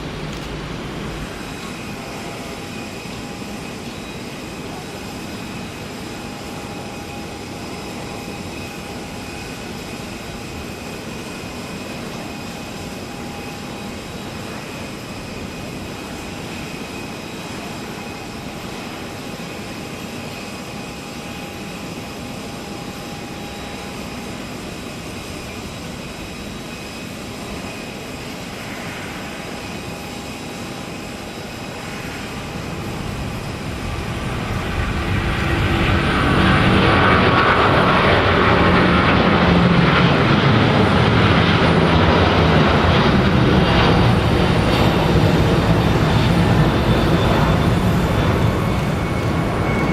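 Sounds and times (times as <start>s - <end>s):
jet airliner engines running: 0.0s - 49.9s.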